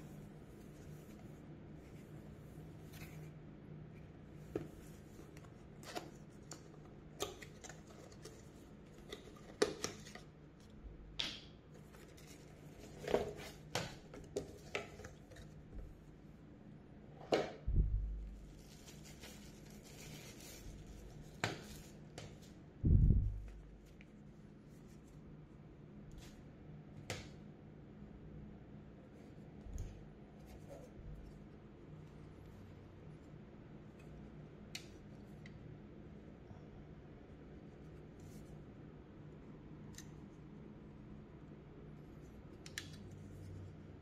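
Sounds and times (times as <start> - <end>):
faint low hum: 0.0 - 44.0.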